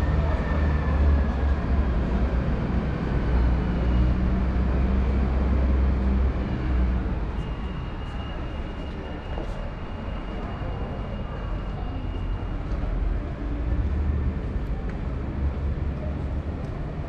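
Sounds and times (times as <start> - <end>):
large vehicle engine rumble: 0.0 - 17.0.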